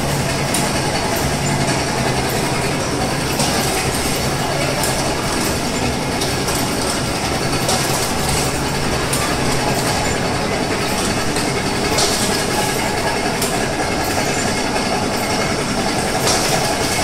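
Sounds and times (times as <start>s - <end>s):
packing machine clatter and hum: 0.0s - 17.0s.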